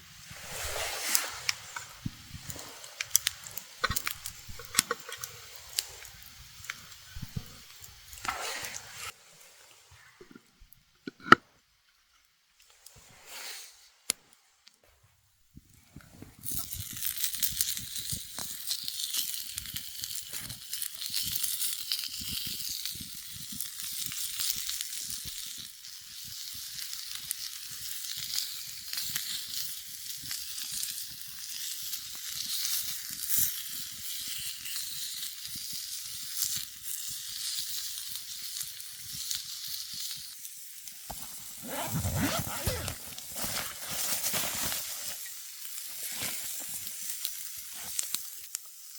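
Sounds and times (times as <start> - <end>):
food sizzling in a pan: 0.0 - 9.7, 16.4 - 41.6, 43.3 - 48.9.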